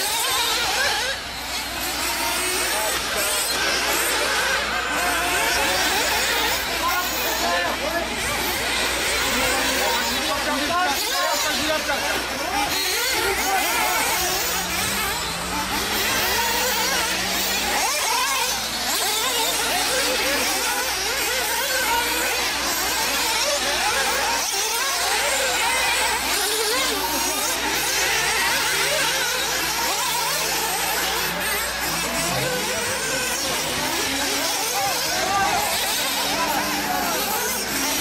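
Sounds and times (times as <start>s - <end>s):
radio-controlled buggy motors whining: 0.0s - 38.0s.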